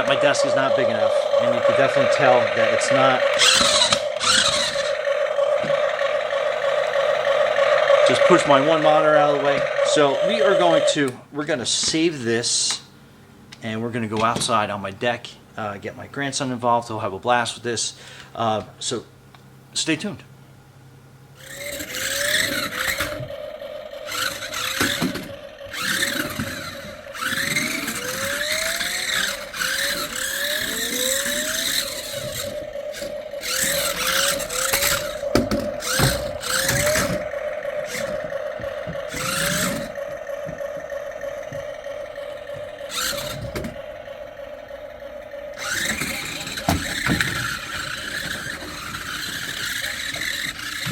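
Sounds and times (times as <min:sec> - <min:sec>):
wheels skidding: 0:00.0 - 0:11.5, 0:21.4 - 0:50.9
toy car motors whining: 0:00.0 - 0:12.8, 0:21.3 - 0:50.9.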